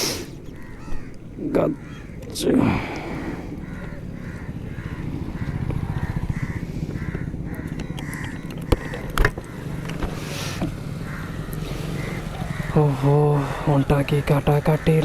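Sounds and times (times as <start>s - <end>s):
crows cawing: 0.0s - 15.0s
motorcycle engine idling: 0.0s - 15.0s.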